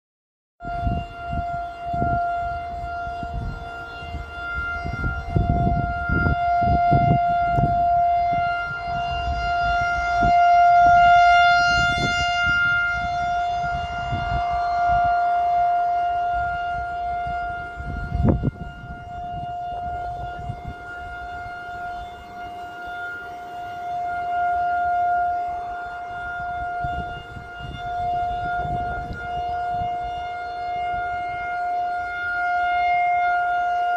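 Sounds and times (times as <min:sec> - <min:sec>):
warning siren: 0:00.6 - 0:33.9.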